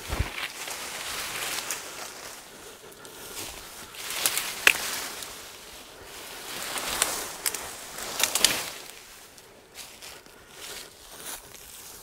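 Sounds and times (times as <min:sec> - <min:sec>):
branches snapping: 0:00.0 - 0:10.4
branches rustling: 0:00.0 - 0:12.0.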